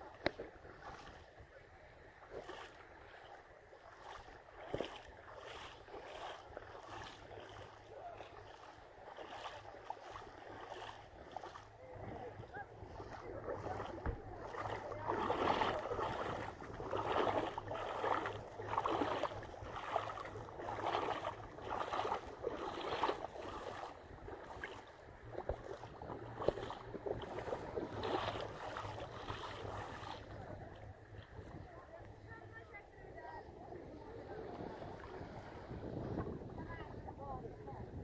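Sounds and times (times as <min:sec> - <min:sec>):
feet wading through water: 0:00.0 - 0:38.0.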